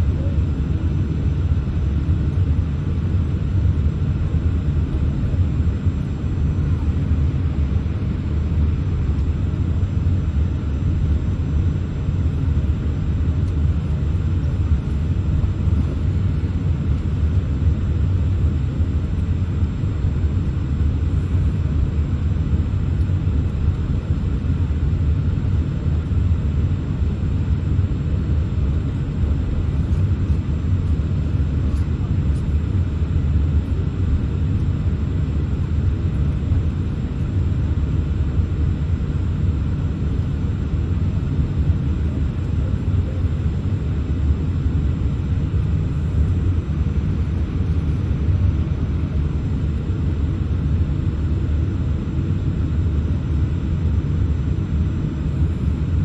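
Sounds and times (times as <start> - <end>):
aircraft engines idling rumble: 0.0 - 56.0.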